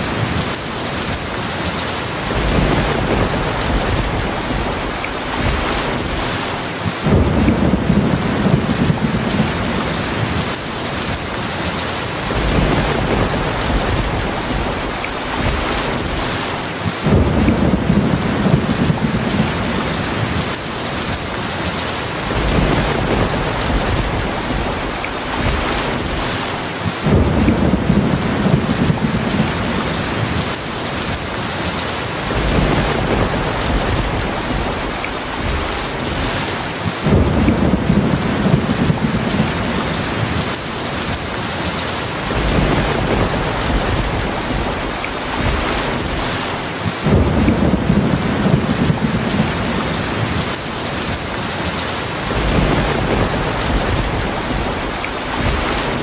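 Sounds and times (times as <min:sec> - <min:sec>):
heavy rain falling: 0:00.0 - 0:56.0
low rolling thunder: 0:02.2 - 0:11.1, 0:12.2 - 0:21.1, 0:22.2 - 0:31.1, 0:32.2 - 0:41.1, 0:42.2 - 0:51.2, 0:52.1 - 0:56.0.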